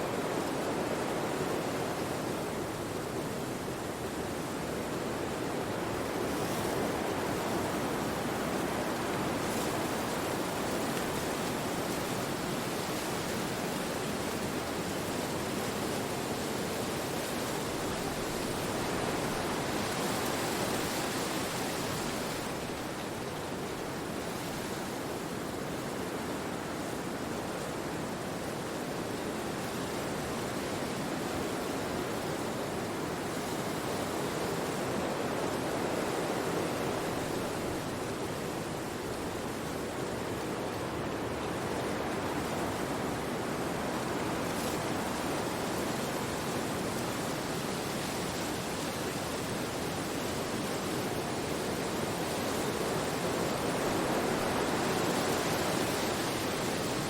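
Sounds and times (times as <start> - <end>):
wind through forest trees: 0.0 - 57.0.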